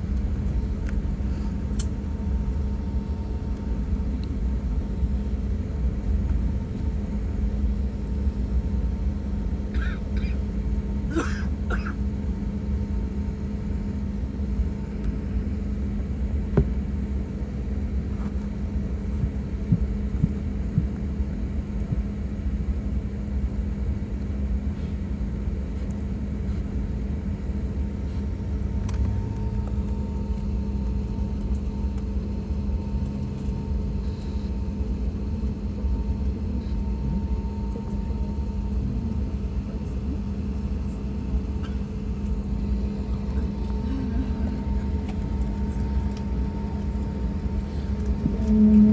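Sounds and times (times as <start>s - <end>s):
airliner cabin rumble and hum: 0.0s - 48.9s.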